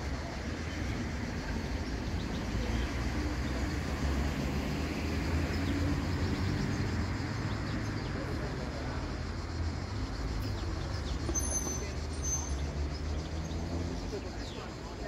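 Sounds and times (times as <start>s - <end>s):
low town rumble: 0.0s - 15.0s.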